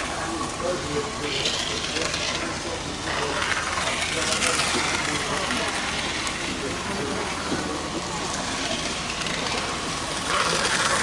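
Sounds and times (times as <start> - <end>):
indistinct background voices: 0.0 - 11.0.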